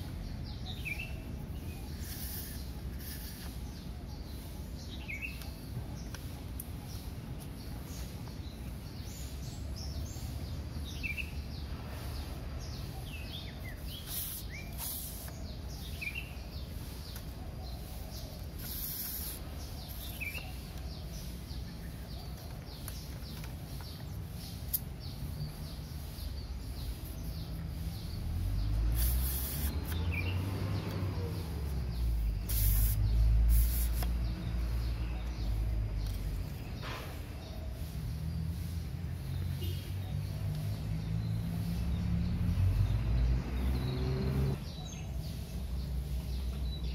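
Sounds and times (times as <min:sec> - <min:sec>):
bird chirps: 0:00.0 - 0:46.9.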